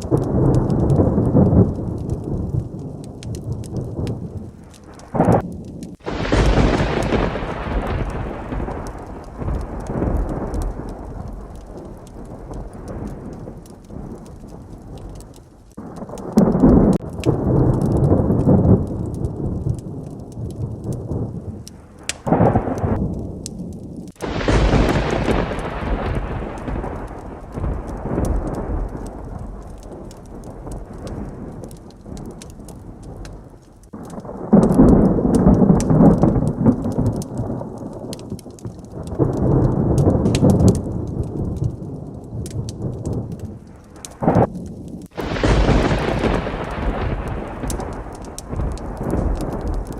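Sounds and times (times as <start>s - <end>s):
heavy rain: 0.0s - 49.9s
sharp thunder crack: 0.0s - 49.9s
thunder rolling: 0.0s - 49.9s.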